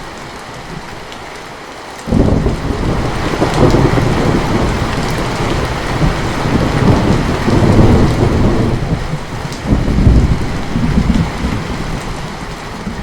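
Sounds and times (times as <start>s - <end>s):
heavy rain: 0.0s - 13.0s
thunder rumbling: 2.1s - 13.0s.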